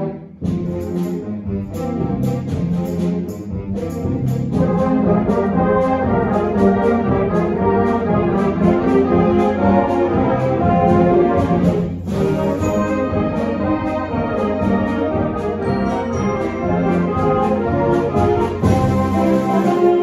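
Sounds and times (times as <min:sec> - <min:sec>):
brass chords: 0:00.0 - 0:20.0
string bass: 0:00.0 - 0:20.0.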